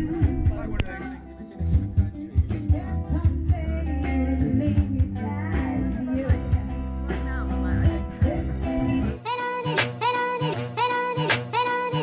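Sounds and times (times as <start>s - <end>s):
upbeat rock and roll song: 0.0s - 12.0s.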